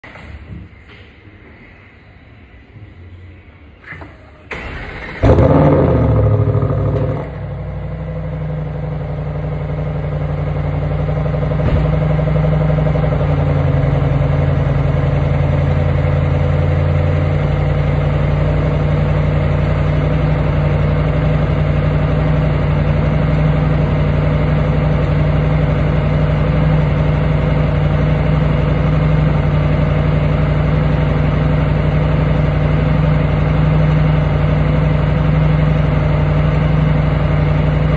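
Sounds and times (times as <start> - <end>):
car engine starting and idling: 3.8 - 37.9.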